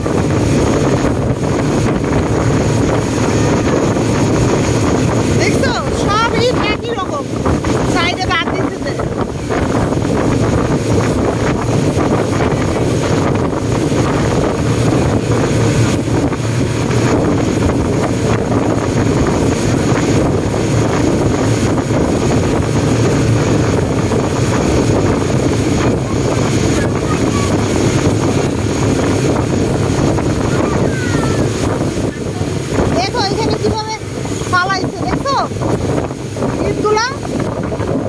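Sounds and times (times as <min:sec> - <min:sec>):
speedboat engine drone: 0:00.0 - 0:38.0
water rushing past hull: 0:00.0 - 0:38.0
wind buffeting microphone: 0:00.0 - 0:38.0.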